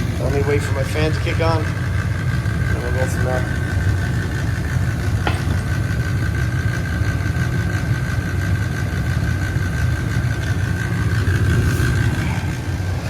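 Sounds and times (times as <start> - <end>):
furnace high-pitched whine: 0.0 - 13.0
gas furnace low rumble: 0.0 - 13.0.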